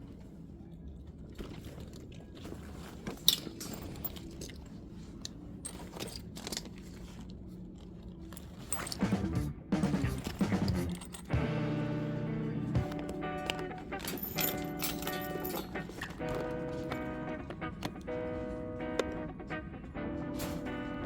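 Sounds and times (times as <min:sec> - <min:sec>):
crinkling and clicking handling noises: 0:00.0 - 0:11.5, 0:12.7 - 0:21.0.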